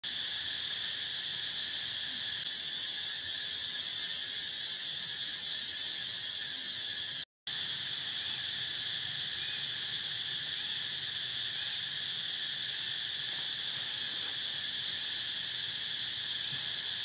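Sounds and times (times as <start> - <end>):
forest insects droning: 0.0 - 17.0.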